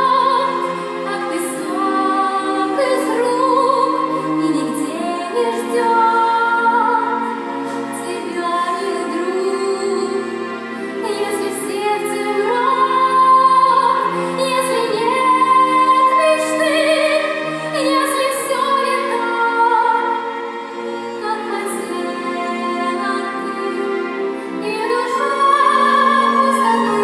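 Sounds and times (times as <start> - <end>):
musical accompaniment: 0.0 - 27.0
woman singing: 0.0 - 27.0.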